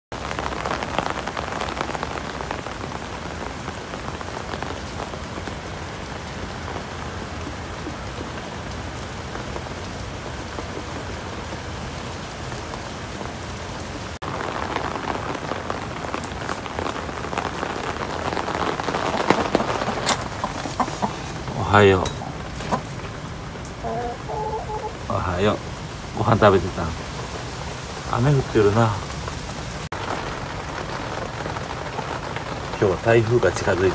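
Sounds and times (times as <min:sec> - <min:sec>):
rain drops pattering: 0:00.1 - 0:33.9.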